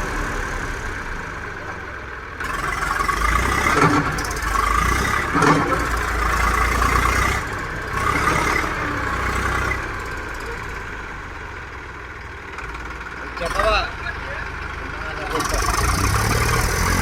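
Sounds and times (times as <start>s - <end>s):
diesel tractor engine running: 0.0s - 17.0s.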